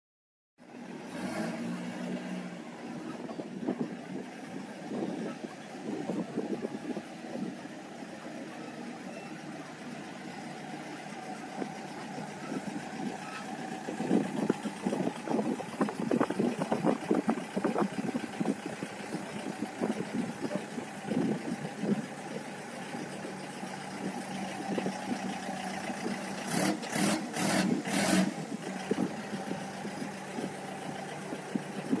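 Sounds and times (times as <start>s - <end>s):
engine idling: 2.0s - 32.0s.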